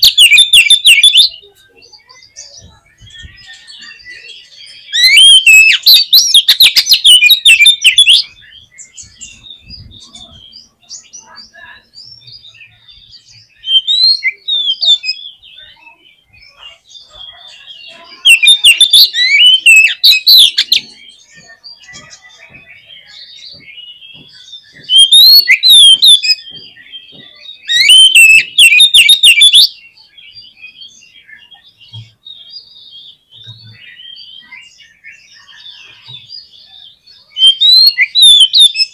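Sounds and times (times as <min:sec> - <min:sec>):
bird singing whistles: 0:00.0 - 0:10.4, 0:12.1 - 0:15.8, 0:18.2 - 0:38.9
quiet bird twittering: 0:00.0 - 0:38.9.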